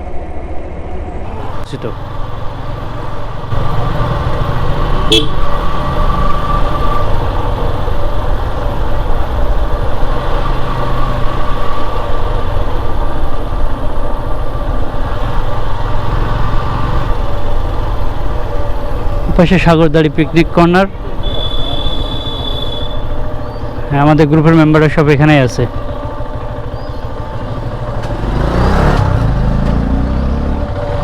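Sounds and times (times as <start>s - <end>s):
road and wind rumble: 0.0s - 31.0s
motorcycle engine running: 1.4s - 31.0s.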